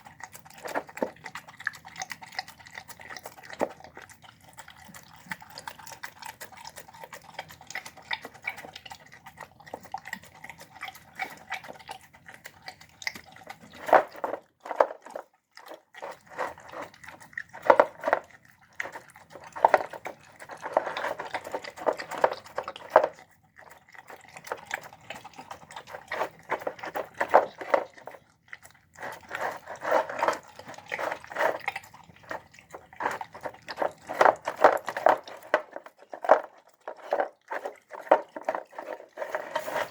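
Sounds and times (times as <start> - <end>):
dog chewing and smacking: 0.0 - 39.9.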